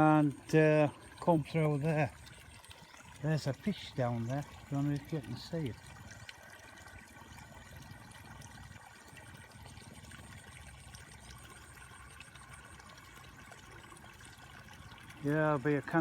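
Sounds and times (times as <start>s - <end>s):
water trickling and pouring: 0.0s - 16.0s.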